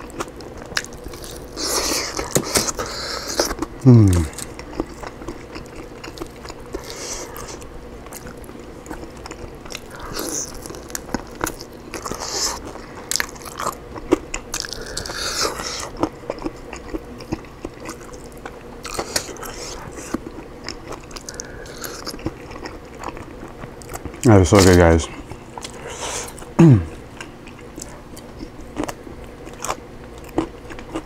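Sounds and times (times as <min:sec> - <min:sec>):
biting and chewing chicken: 0:00.0 - 0:31.0.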